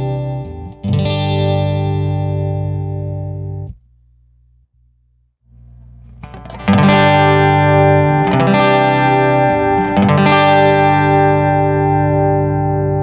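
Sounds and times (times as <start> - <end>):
guitar chords strummed: 0.0 - 3.8, 6.0 - 13.0.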